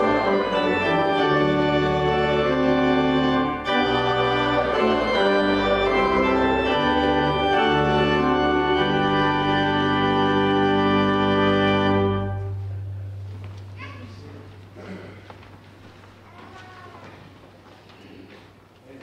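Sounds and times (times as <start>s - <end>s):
church organ chords: 0.0s - 15.5s.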